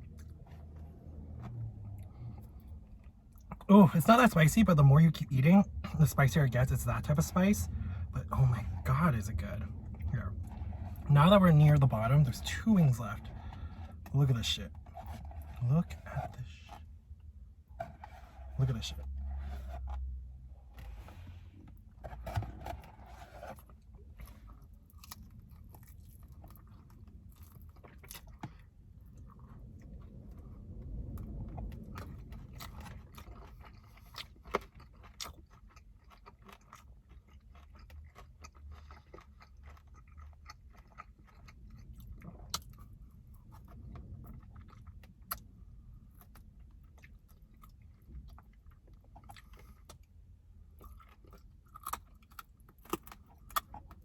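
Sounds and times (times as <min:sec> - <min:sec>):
chewing with wet mouth sounds: 0:00.0 - 0:54.0.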